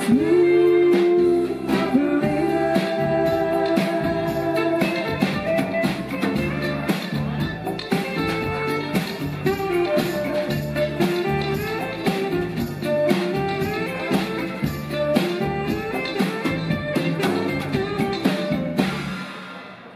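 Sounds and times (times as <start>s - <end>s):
drum kit beat: 0.0s - 19.9s
live band music: 0.0s - 19.9s.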